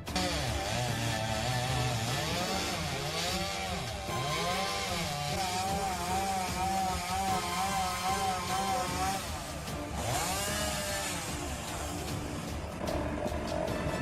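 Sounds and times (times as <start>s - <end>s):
chainsaw revving and cutting wood: 0.0s - 14.0s.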